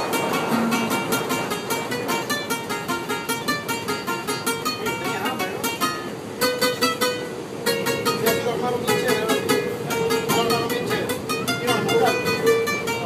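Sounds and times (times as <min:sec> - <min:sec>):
plucked guitar playing: 0:00.0 - 0:13.0.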